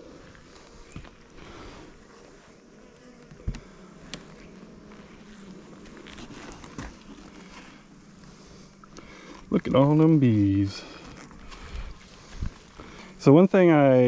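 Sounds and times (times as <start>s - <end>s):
honeybees humming: 0.0s - 14.0s.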